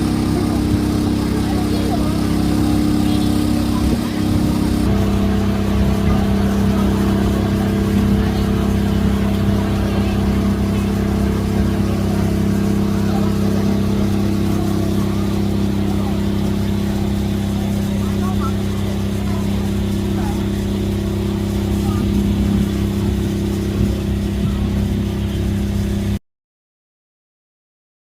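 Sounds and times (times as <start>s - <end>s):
vehicle engine hum: 0.0s - 26.2s.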